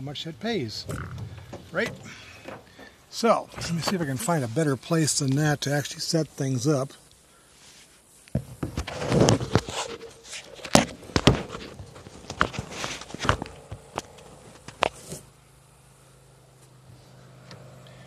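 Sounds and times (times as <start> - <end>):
rustle: 0.0 - 18.0.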